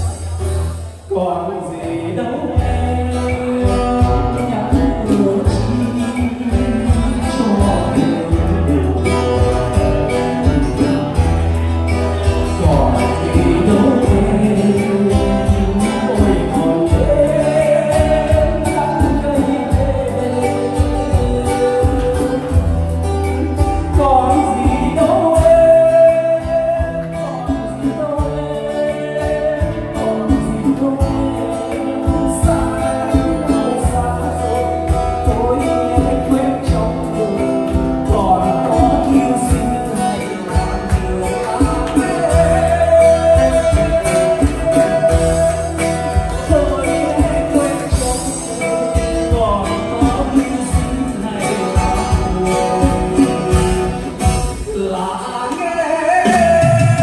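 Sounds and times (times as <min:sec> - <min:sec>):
person singing: 0:00.0 - 0:57.0
strummed acoustic guitars: 0:00.0 - 0:57.0.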